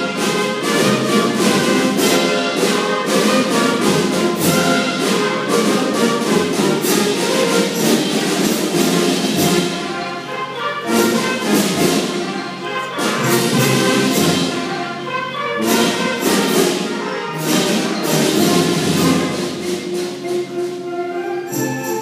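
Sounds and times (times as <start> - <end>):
school band playing: 0.0 - 22.0
sharp percussion strikes: 0.0 - 22.0.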